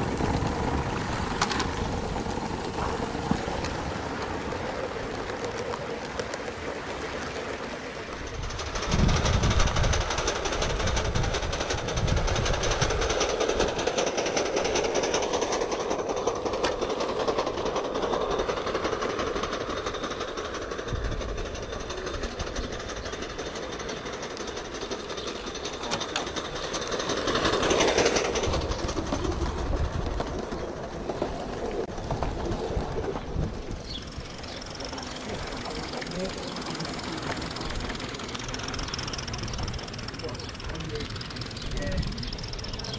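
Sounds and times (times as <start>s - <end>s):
model locomotive running on track: 0.0s - 42.9s.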